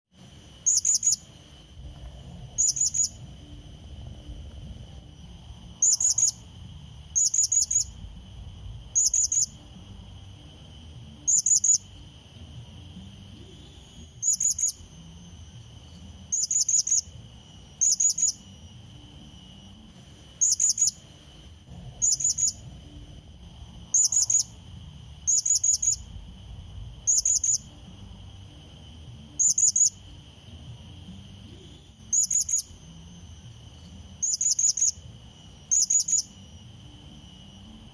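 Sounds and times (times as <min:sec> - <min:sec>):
faint high insect-like whine: 0:00.1 - 0:37.9.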